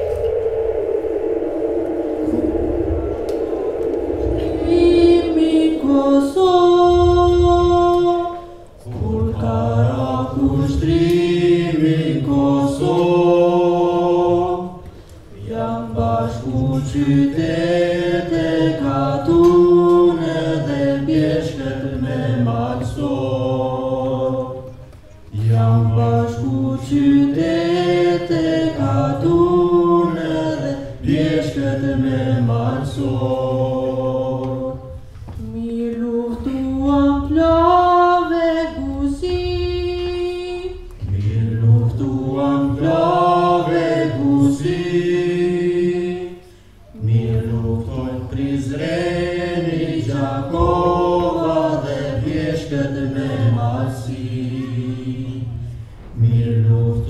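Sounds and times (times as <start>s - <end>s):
voices singing together: 0.0s - 57.0s.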